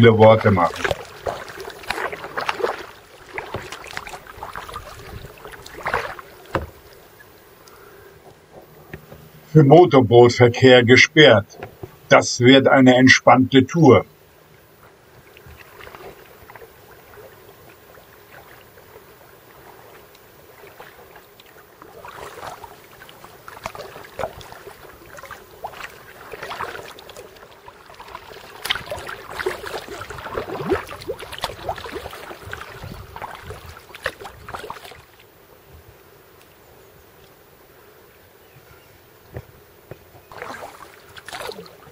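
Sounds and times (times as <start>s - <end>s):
kayak paddle splashing: 0.0s - 9.5s, 14.2s - 37.3s, 39.3s - 41.9s.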